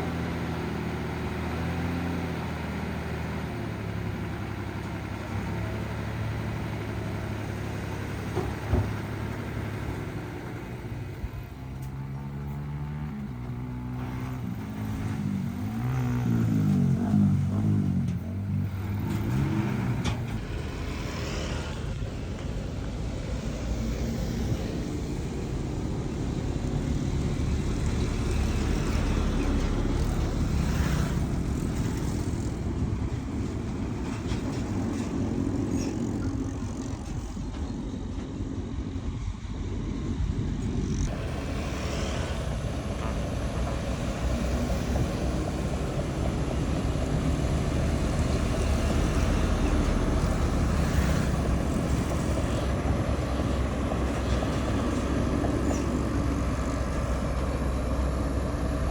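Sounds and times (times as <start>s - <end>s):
heavy diesel machinery rumbling: 0.0s - 58.9s.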